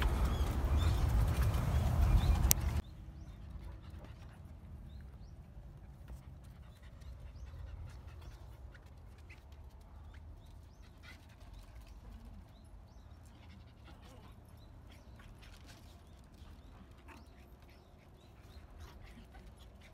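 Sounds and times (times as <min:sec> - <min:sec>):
small dog panting and whimpering: 0:00.0 - 0:19.9.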